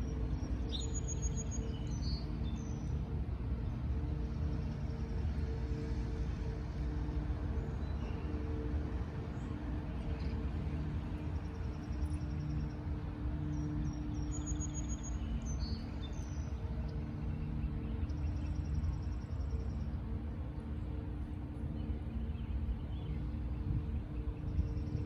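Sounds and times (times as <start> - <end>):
low rumble with hum: 0.0 - 25.0.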